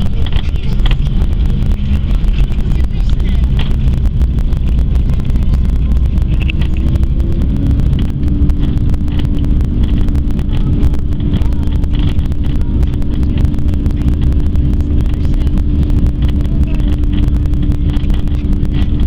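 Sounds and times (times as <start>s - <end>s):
airliner engine rumble: 0.0s - 19.0s
steady hum: 0.0s - 19.0s.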